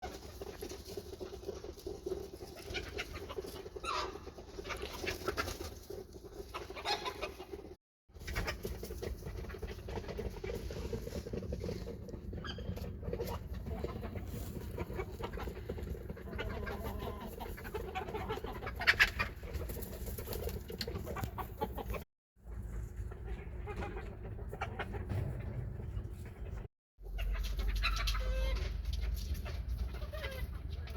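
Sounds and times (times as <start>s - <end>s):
chickens clucking: 0.0s - 30.9s.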